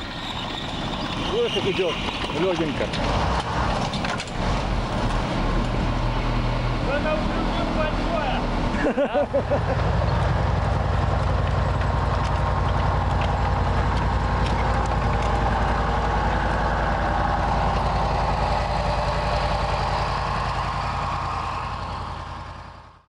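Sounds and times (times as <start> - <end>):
tracked vehicle engine running: 0.0 - 23.0.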